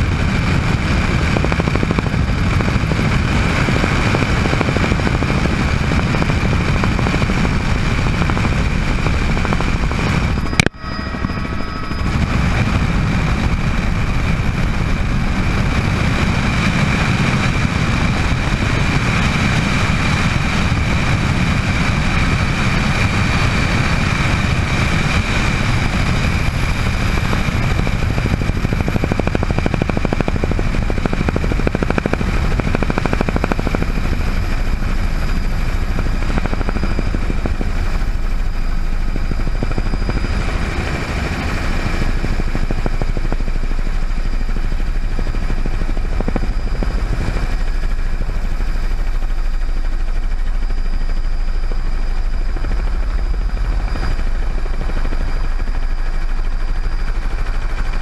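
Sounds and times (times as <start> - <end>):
helicopter rotor and engine drone: 0.0 - 58.0
high turbine whine: 0.0 - 58.0.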